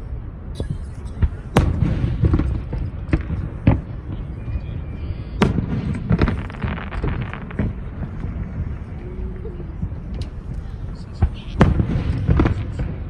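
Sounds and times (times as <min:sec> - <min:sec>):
firework bangs: 0:00.6 - 0:13.0
low rumbling booms: 0:00.7 - 0:13.0
crackling firework cracks: 0:01.2 - 0:13.0.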